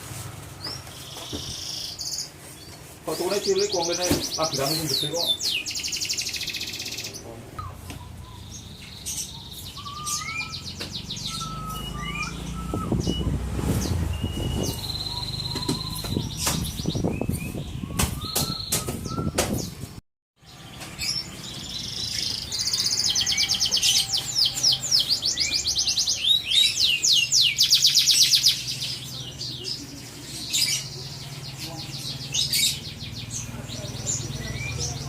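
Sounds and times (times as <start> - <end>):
canary singing trills: 0.6 - 19.7, 20.4 - 35.0.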